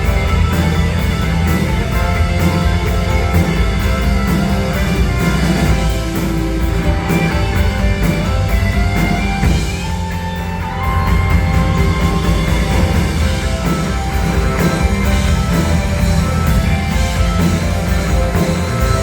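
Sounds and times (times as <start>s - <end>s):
bass: 0.0s - 19.0s
drum kit: 0.0s - 19.0s
guitars: 0.0s - 19.0s.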